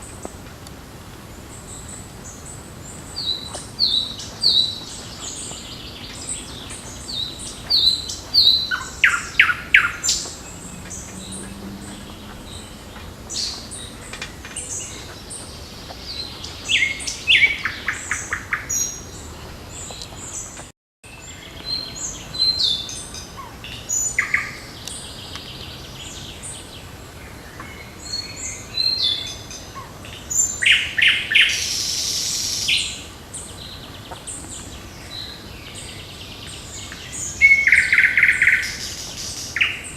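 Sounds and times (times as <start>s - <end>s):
songbirds singing and calling: 1.2s - 39.9s.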